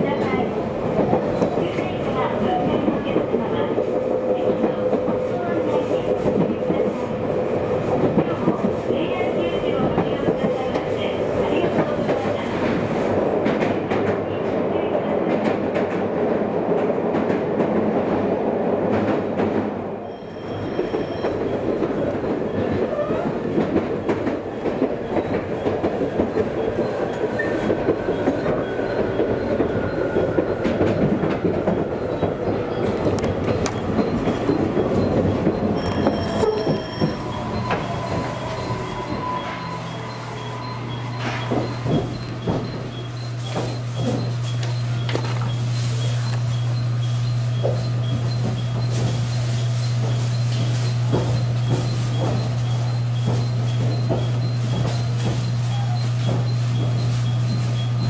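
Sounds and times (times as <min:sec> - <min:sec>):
train wheel and rail rumble: 0:00.0 - 0:58.0.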